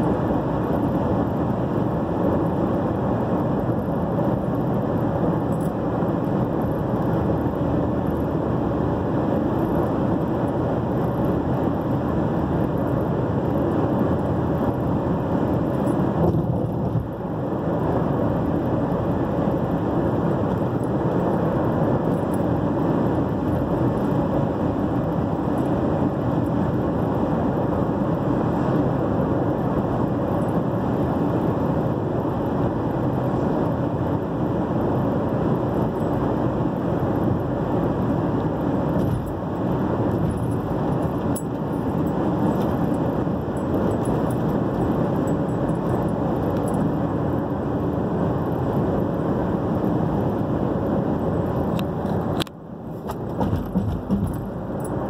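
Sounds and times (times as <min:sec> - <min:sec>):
car driving on highway: 0:00.0 - 0:55.0.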